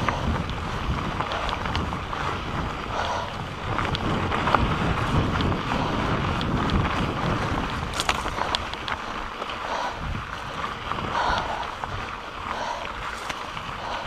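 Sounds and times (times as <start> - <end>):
bike rattles and clicks: 0.0 - 14.0
tyres rumbling on dirt: 0.0 - 14.0
wind buffeting microphone: 0.0 - 14.0.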